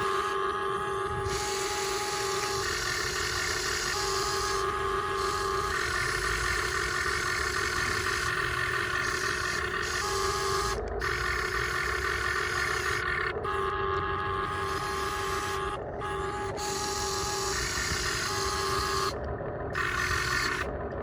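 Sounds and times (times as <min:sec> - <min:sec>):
hydraulic pump and motors whining: 0:00.0 - 0:21.0
low mechanical rumble: 0:00.0 - 0:21.0.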